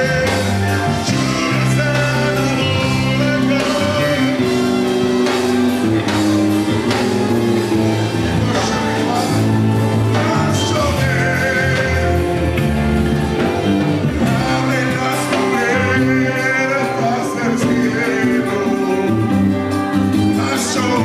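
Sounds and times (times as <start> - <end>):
bass line: 0.0 - 21.0
drums: 0.0 - 21.0
person singing: 0.0 - 21.0.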